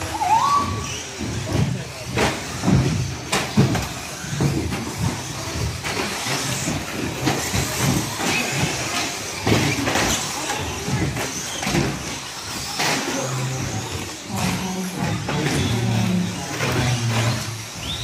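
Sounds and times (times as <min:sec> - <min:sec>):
rc truck motors whirring: 0:00.0 - 0:18.0.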